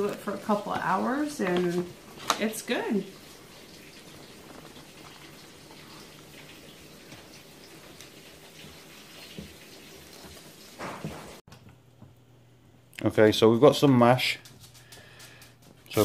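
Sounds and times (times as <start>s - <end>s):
steady light crackle: 0.0s - 11.9s, 13.6s - 16.0s.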